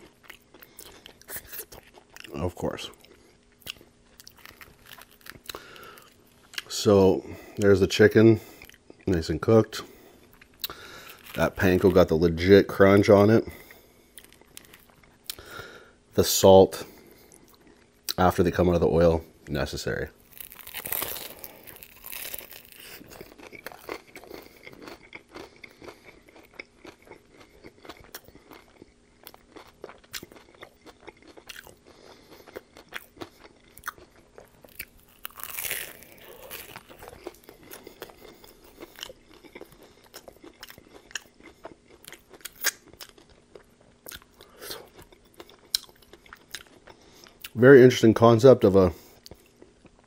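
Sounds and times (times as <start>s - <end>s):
crunchy chewing of fried food: 0.0s - 16.0s, 16.7s - 50.0s.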